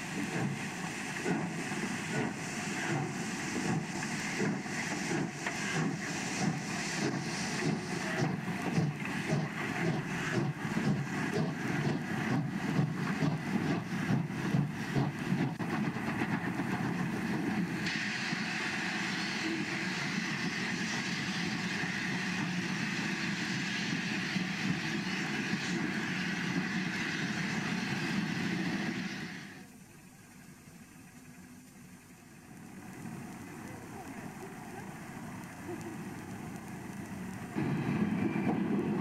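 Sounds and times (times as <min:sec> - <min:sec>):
steady train running noise: 0:00.0 - 0:39.0.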